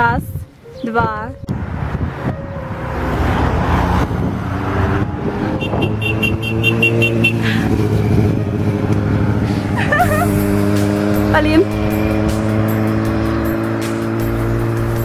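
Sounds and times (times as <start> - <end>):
cars passing: 0.0 - 15.0
motorcycle passing: 1.5 - 15.0.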